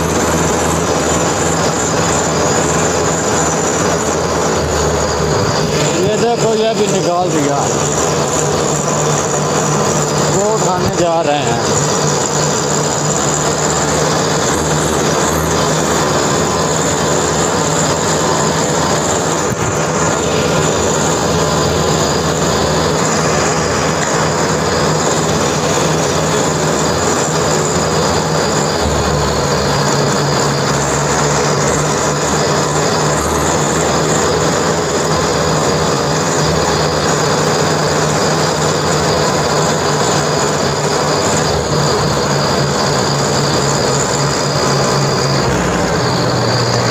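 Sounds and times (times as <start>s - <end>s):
tractor engine droning: 0.0s - 46.9s.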